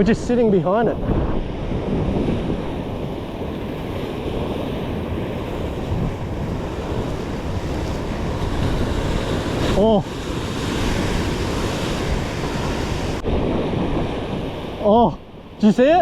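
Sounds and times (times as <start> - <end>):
ocean surf on rocks: 0.0 - 16.0
wind buffeting microphone: 0.0 - 16.0.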